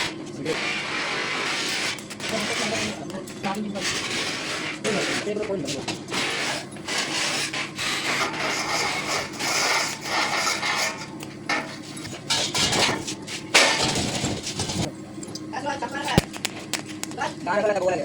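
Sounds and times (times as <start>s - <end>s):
filing stainless steel: 0.0s - 14.9s.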